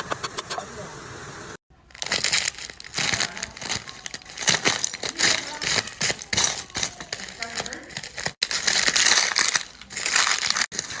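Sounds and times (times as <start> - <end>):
brittle crunching and crackling: 1.8 - 11.0.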